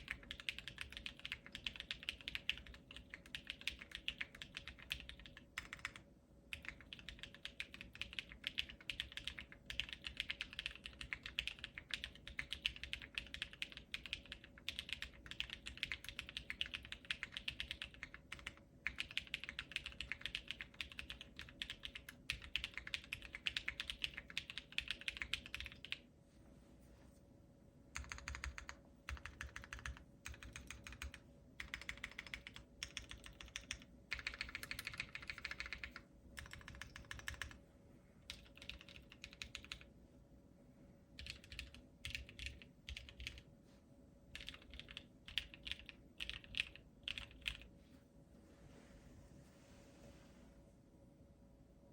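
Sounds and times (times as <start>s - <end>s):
fast mechanical keyboard typing: 0.0s - 26.0s, 28.0s - 37.6s, 38.3s - 39.9s, 41.2s - 43.4s, 44.3s - 47.7s.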